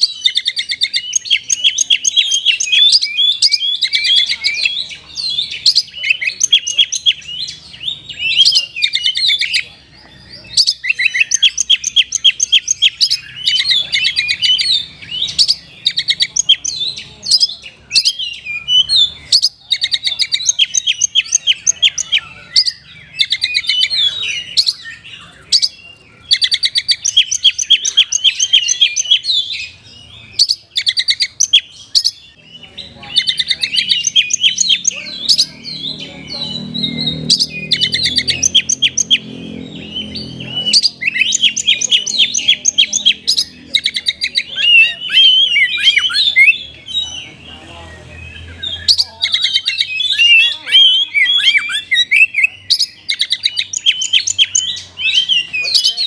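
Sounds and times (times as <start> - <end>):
songbird chirping and trilling: 0.0 - 56.0.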